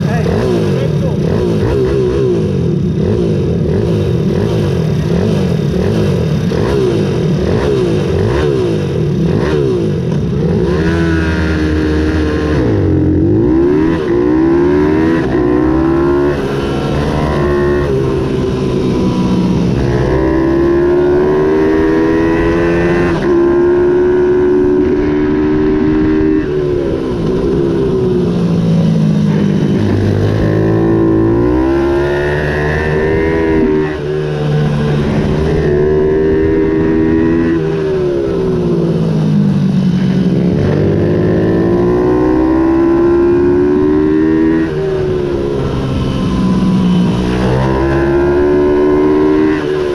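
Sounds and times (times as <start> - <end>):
minibike engines revving: 0.0 - 49.9.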